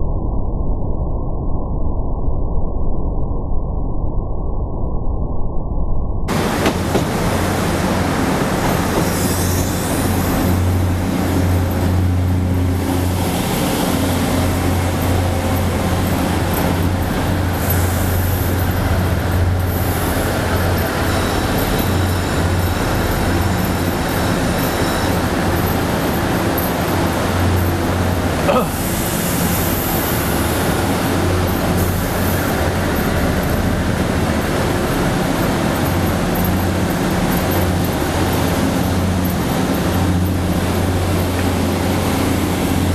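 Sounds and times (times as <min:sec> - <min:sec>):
train equipment humming: 0:06.3 - 0:42.9.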